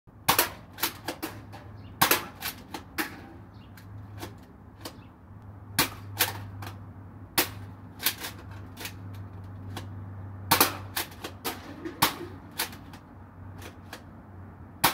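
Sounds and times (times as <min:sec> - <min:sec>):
dart blaster clicks and knocks: 0:00.3 - 0:05.0, 0:05.8 - 0:06.8, 0:07.4 - 0:09.9, 0:10.5 - 0:14.1.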